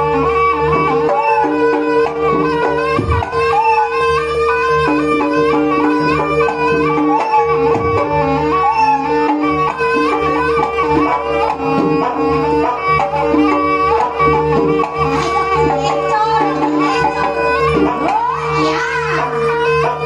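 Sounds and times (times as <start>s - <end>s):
hand drum playing: 0.0s - 20.0s
held drone note: 0.0s - 20.0s
shawm playing melody: 0.0s - 20.0s.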